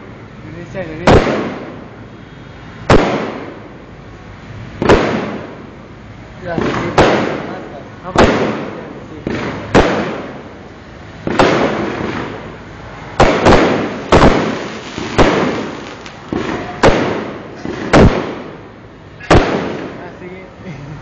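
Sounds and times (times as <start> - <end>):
fireworks banging: 0.0 - 20.6.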